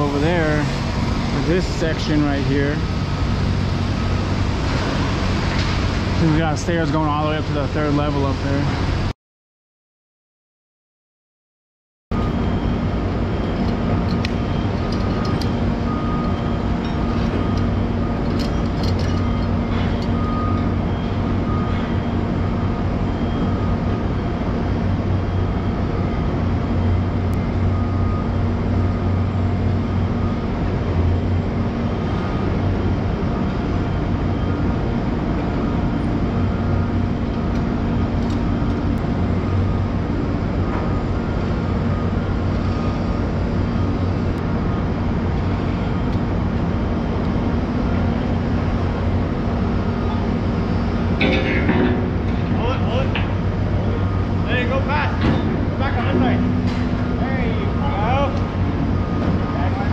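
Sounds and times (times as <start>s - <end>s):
construction machinery engine drone: 0.0s - 9.1s, 12.1s - 59.9s.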